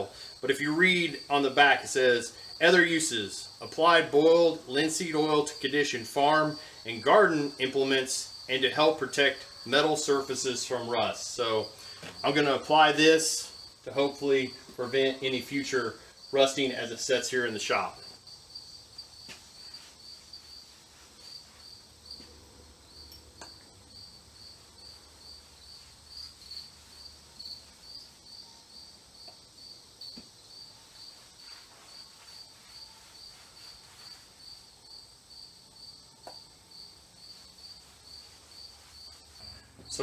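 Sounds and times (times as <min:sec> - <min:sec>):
cricket chirping: 0:04.5 - 0:40.0.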